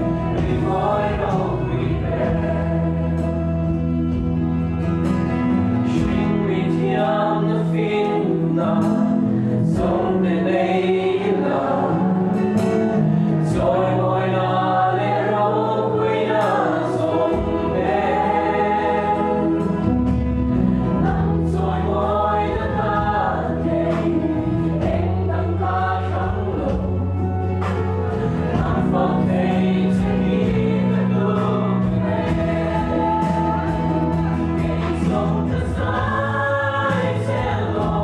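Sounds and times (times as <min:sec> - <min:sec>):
band playing: 0:00.0 - 0:38.0
group singing worship song: 0:00.0 - 0:38.0
sustained bass notes: 0:00.0 - 0:38.0.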